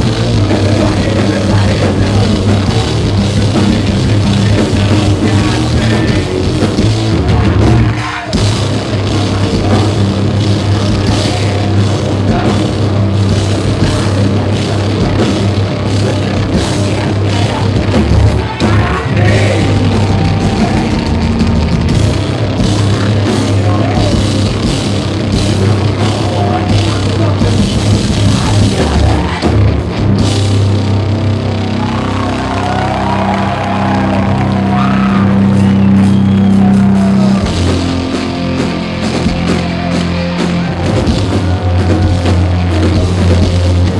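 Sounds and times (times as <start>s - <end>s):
heavy metal band playing live: 0.0s - 43.9s.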